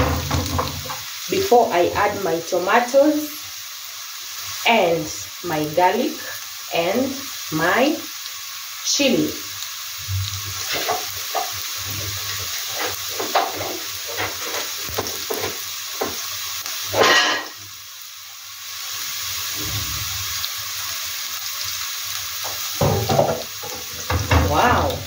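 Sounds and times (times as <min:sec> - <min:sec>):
onions sizzling in a pan: 0:00.0 - 0:25.0.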